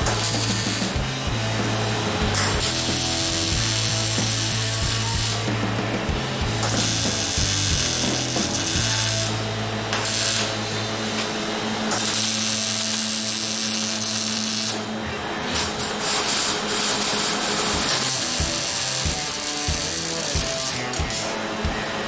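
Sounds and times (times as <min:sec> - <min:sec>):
welder arc crackling: 0:00.0 - 0:22.0.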